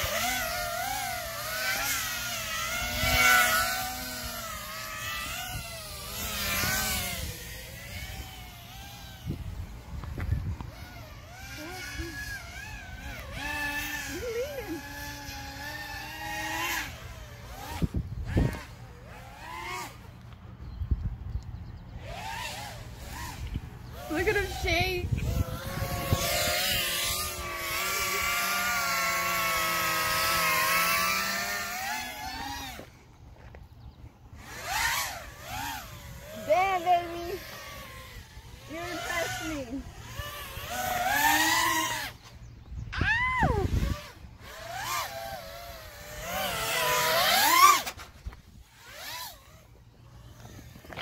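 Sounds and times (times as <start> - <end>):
quadcopter motors whining: 0.0 - 51.0.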